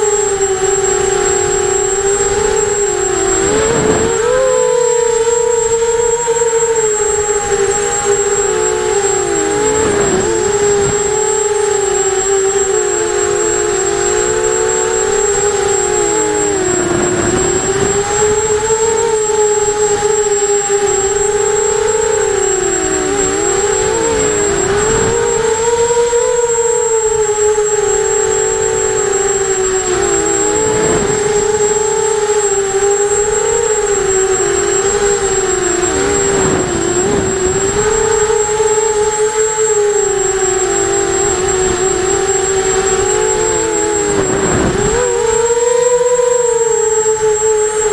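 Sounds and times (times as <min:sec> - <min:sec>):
quadcopter motors whining: 0:00.0 - 0:47.9
thin steady high tone: 0:00.0 - 0:47.9.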